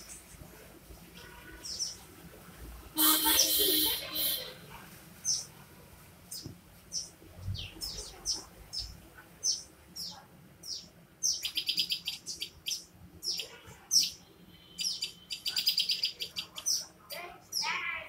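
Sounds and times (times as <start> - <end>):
songbird chirping: 1.2 - 2.3, 3.0 - 5.6, 6.3 - 18.0.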